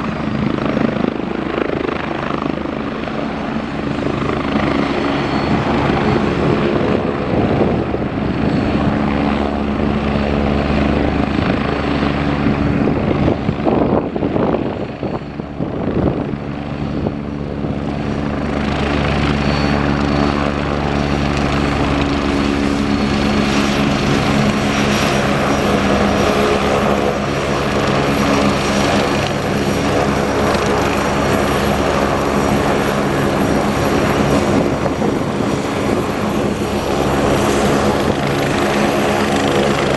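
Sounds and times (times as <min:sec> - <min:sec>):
helicopter turbines and rotor running: 0:00.0 - 0:39.9.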